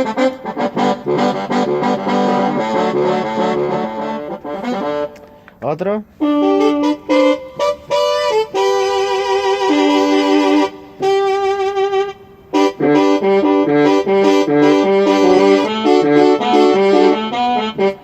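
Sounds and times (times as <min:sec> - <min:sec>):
synthesizer brass notes: 0:00.0 - 0:05.2, 0:06.2 - 0:18.0.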